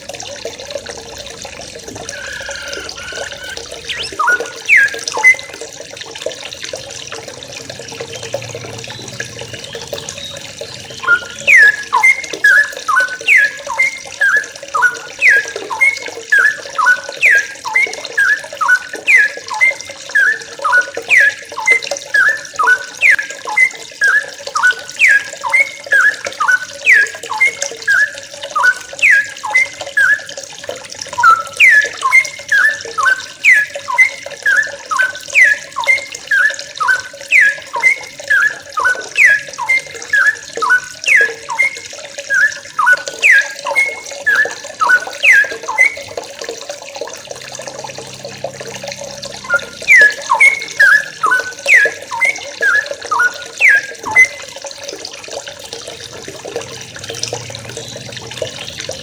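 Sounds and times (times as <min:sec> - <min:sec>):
running water: 0:00.0 - 0:59.0
bird calling sharp falling notes: 0:01.1 - 0:05.6, 0:08.0 - 0:30.4, 0:31.1 - 0:46.2, 0:47.5 - 0:54.6.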